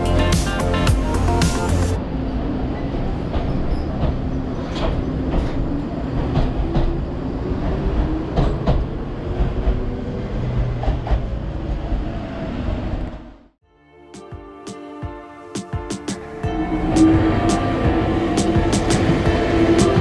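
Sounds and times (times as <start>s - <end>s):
electric train rumbling: 0.0s - 13.6s, 15.6s - 20.0s.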